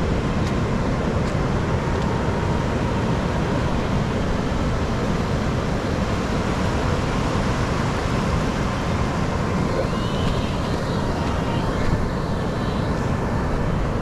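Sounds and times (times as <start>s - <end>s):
ocean surf breaking: 1.5s - 14.0s.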